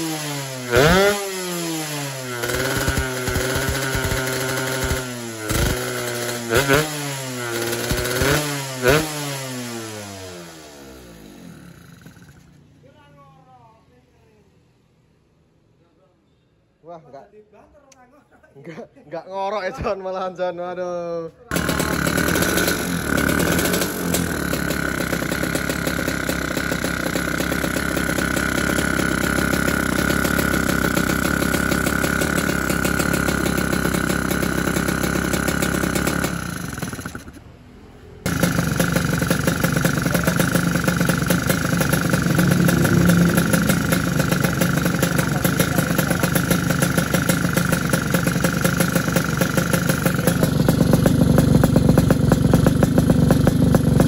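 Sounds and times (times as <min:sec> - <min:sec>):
two-stroke motorcycle engine running: 0:00.0 - 0:12.6, 0:21.5 - 0:37.5, 0:38.2 - 0:54.0.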